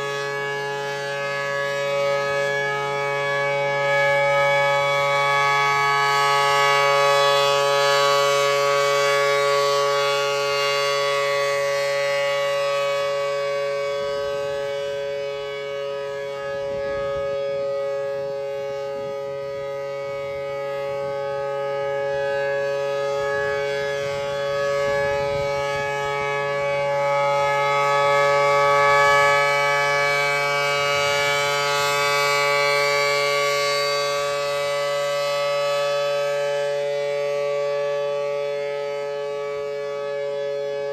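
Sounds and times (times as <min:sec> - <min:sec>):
warning siren two-tone wail: 0:00.0 - 0:40.9.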